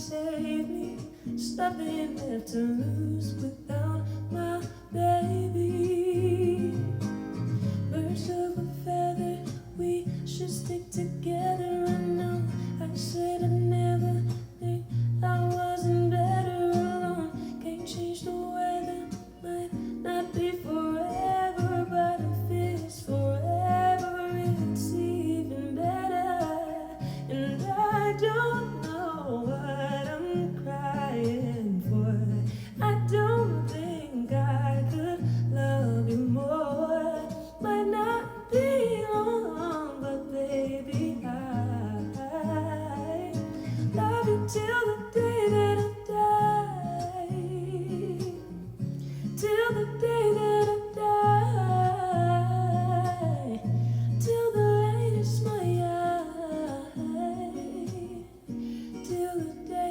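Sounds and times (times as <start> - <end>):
acoustic guitar playing: 0.0 - 59.9
woman singing: 0.0 - 59.9.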